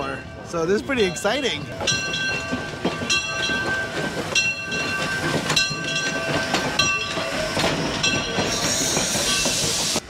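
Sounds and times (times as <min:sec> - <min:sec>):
steam locomotive bell ringing: 0:00.0 - 0:10.0.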